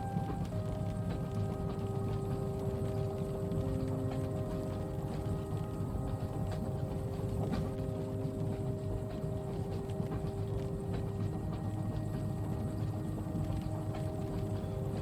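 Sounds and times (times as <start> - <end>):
steady humming tones: 0.0 - 15.0
train carriage rumble: 0.0 - 15.0.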